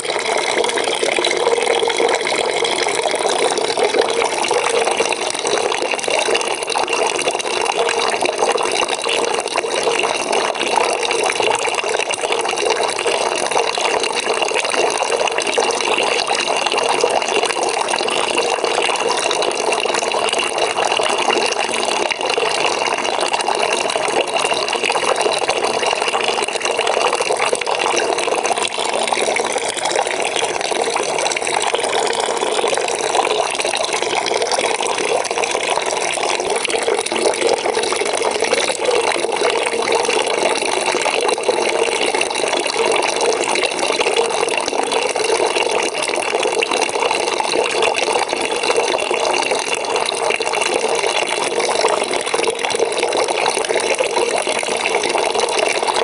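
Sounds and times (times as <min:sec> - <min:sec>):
tap water running into bucket: 0:00.0 - 0:56.0.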